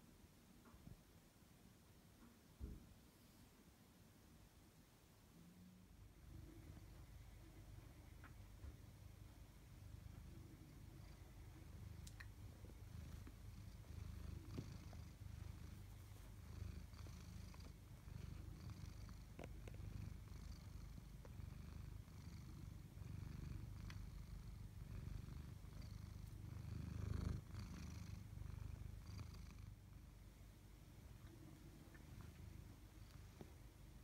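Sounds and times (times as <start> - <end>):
cat purring: 5.4 - 34.0.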